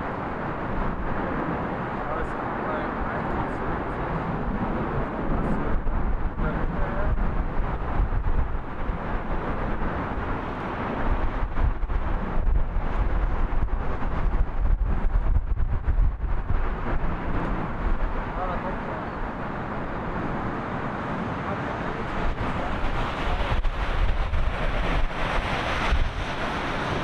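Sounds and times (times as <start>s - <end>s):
jet aircraft rumble: 0.0s - 27.0s
wind buffeting microphone: 0.0s - 27.0s.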